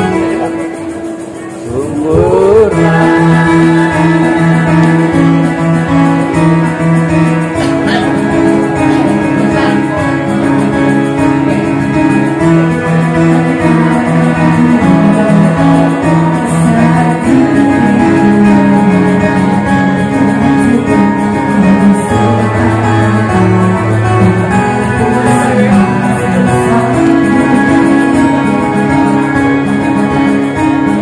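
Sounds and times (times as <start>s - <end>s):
loud music with long held notes: 0.0s - 31.0s.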